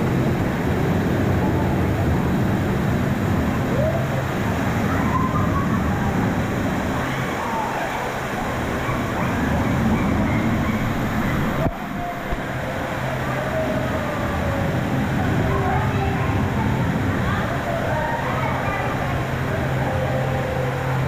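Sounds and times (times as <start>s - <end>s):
distant voices: 0.0s - 21.0s
rushing water with low rumble: 0.0s - 21.0s.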